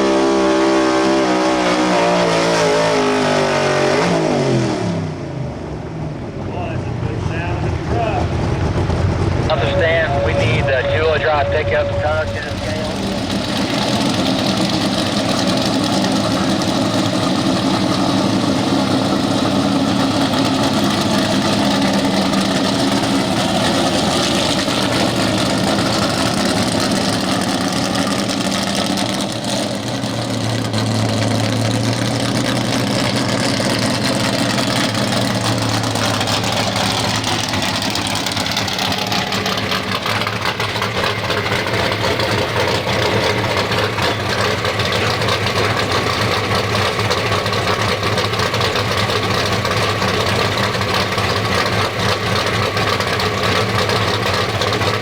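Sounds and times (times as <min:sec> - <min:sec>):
truck engine running: 0:05.2 - 0:55.0.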